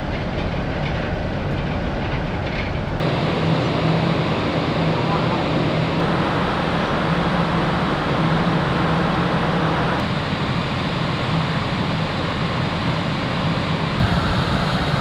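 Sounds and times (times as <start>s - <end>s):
ferry rushing noise and low hum: 0.0s - 15.0s.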